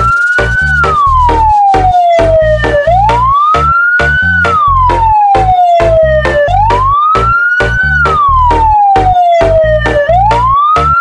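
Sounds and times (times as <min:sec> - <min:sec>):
music with fast beat and bass: 0:00.0 - 0:11.0
wailing siren: 0:00.0 - 0:11.0.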